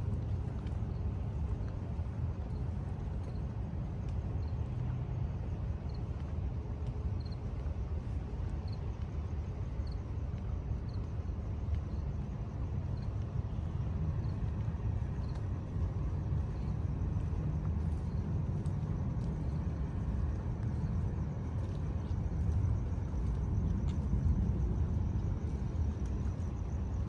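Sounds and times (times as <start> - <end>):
low urban rumble: 0.0 - 27.0.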